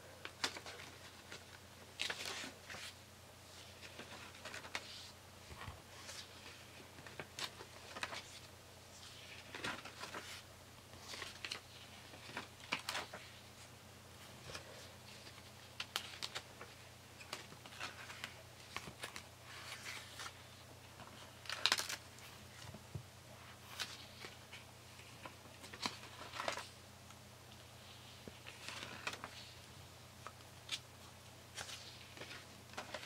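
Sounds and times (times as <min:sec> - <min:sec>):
paper pages rustling: 0:00.2 - 0:13.7, 0:14.3 - 0:26.8, 0:27.8 - 0:33.0.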